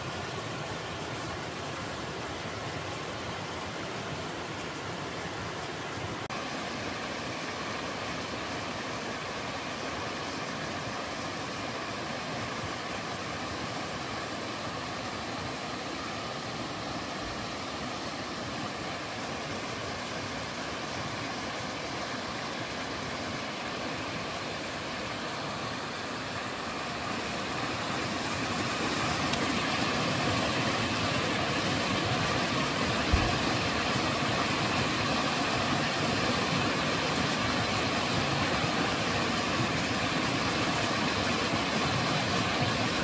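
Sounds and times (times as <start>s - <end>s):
waterfall rushing and splashing: 0.0s - 43.0s.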